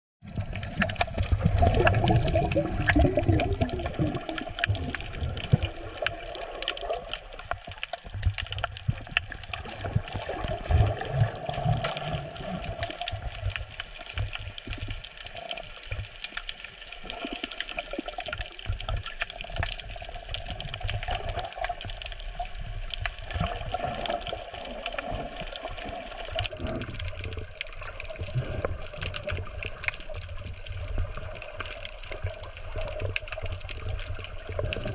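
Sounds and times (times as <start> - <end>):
underwater churning rush: 0.2 - 34.9
faint crackling clicks: 0.5 - 34.9.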